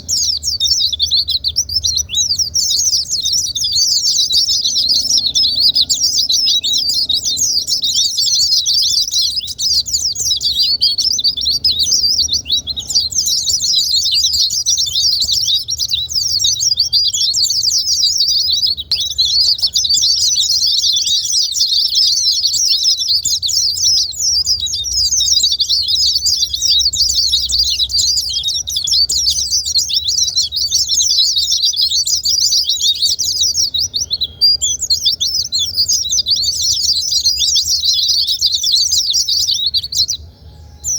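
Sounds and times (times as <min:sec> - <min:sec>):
birds twittering: 0:00.0 - 0:40.9.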